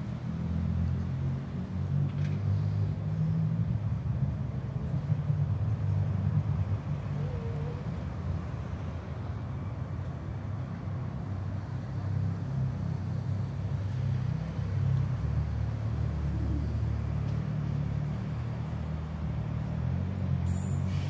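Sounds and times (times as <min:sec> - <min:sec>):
diesel train rumble: 0:01.1 - 0:21.0.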